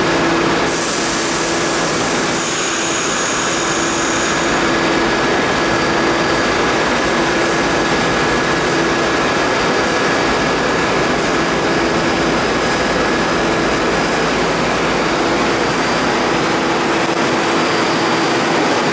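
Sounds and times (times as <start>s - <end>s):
subway train rumbling in tunnel: 0.0s - 18.9s.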